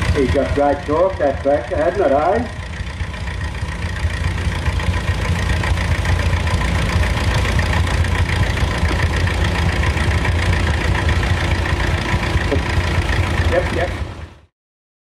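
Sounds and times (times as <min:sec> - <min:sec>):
tractor engine under load: 0:00.0 - 0:14.5.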